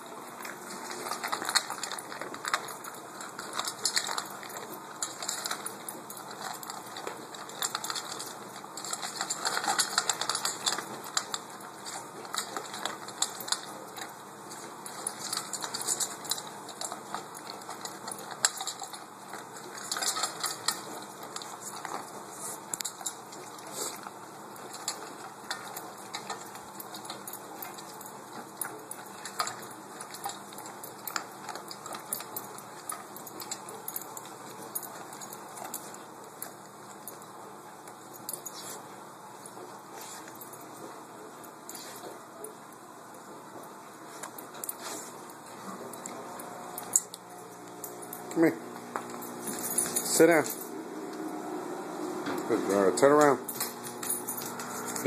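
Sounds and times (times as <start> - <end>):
dog crunching dry food: 0.0 - 55.0
collar tags clicking on metal bowl: 0.9 - 42.8, 43.5 - 51.3, 52.3 - 55.0.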